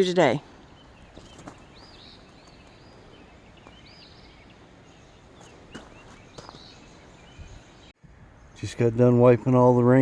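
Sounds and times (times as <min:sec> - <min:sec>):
outdoor background hum: 0:00.0 - 0:10.0
small birds chirping: 0:00.0 - 0:10.0.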